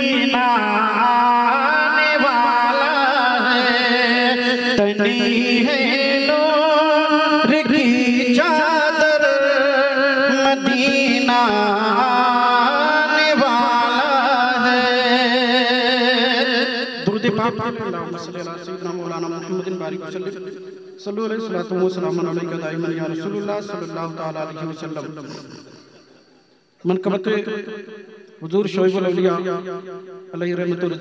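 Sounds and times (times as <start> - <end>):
man singing devotional song: 0.0 - 26.1.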